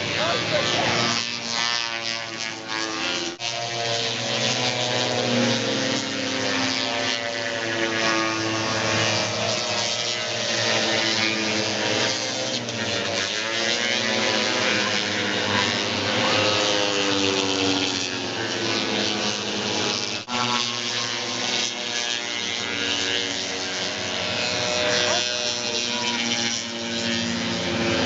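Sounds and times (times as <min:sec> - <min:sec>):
snowmobile engines revving: 0:00.0 - 0:28.0.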